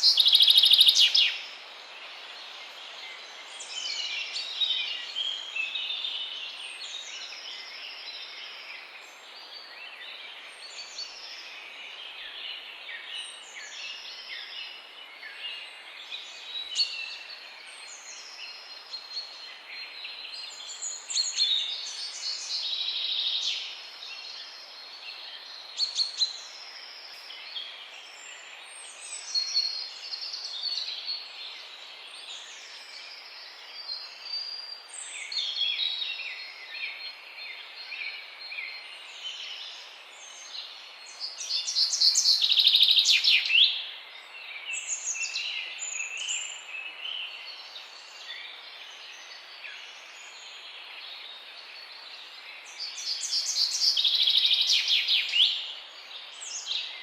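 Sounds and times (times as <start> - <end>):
songbirds singing and calling: 0.0 - 57.0
steady background hiss: 0.0 - 57.0.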